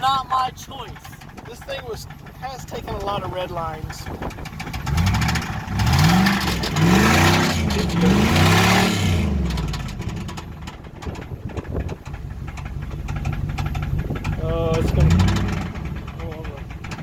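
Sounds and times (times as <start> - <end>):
car engine revving: 0.0 - 17.0
rough idle with knocking: 0.0 - 17.0.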